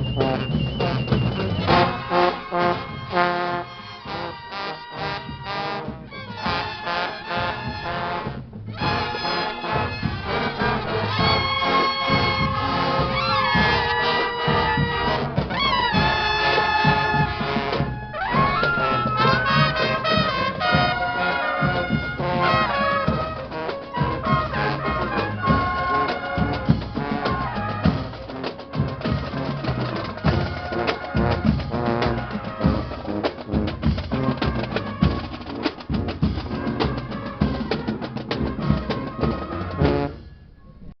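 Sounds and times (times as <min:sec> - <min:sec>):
brass music over drums: 0:00.0 - 0:40.9.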